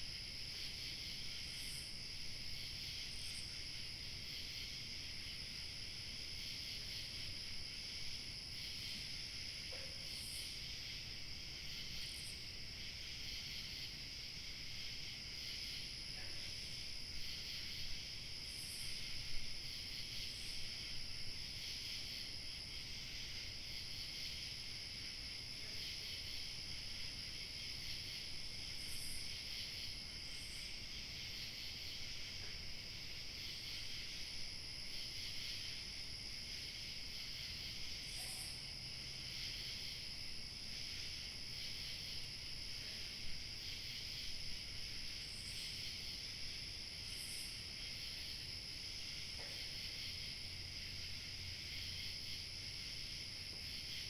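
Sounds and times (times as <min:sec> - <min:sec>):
crickets chirping: 0:00.0 - 0:54.0
high insect trill: 0:00.1 - 0:54.0.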